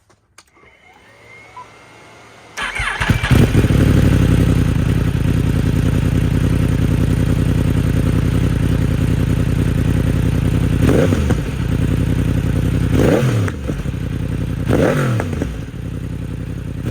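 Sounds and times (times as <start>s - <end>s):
motorcycle engine starting and idling: 0.4s - 16.9s.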